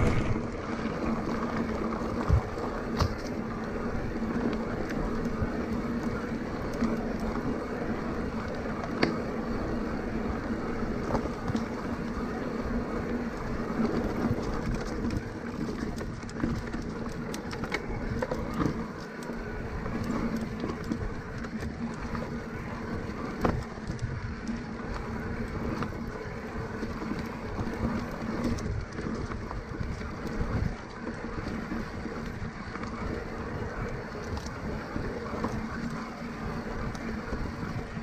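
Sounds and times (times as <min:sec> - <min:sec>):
bike rattles and clicks: 0:00.0 - 0:38.0
bike tyres rumbling: 0:00.0 - 0:38.0.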